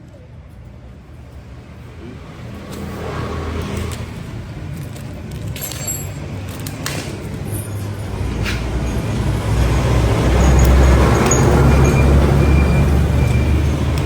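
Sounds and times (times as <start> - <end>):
motor vehicle engine humming: 0.4 - 14.0.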